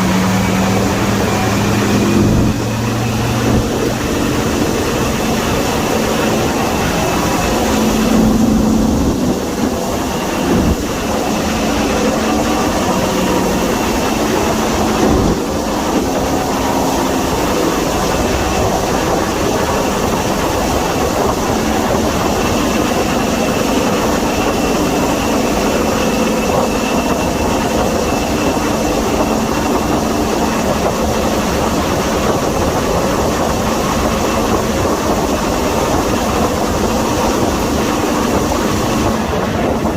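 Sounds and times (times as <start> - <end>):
locomotive diesel engines roaring: 0.0 - 39.9.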